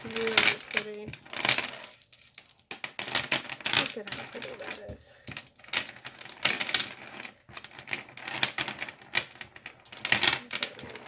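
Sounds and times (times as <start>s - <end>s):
glass beads clicking and clattering: 0.0s - 11.0s.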